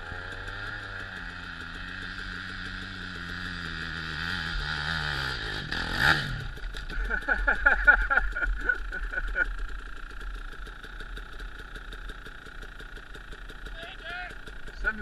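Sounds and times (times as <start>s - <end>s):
dirt bike engine labouring: 0.0s - 15.0s
engine sputtering: 0.0s - 15.0s.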